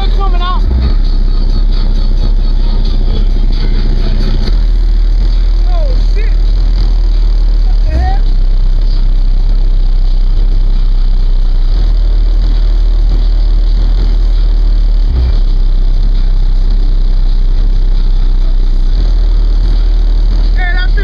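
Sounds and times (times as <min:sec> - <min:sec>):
subwoofers playing deep bass: 0:00.0 - 0:21.0.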